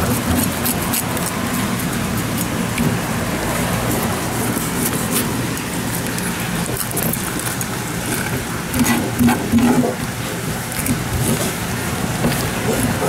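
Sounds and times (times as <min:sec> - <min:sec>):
knife scraping fish: 0:00.0 - 0:13.0
street noise: 0:00.0 - 0:13.0.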